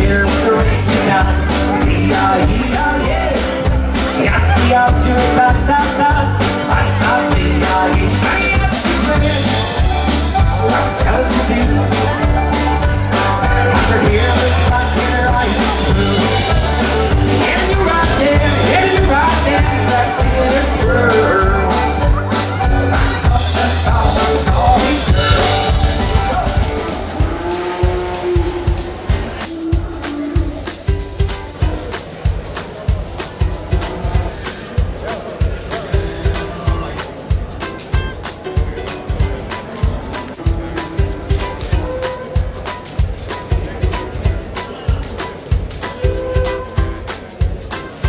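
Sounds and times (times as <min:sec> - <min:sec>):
music with drums and bass: 0:00.0 - 0:48.0.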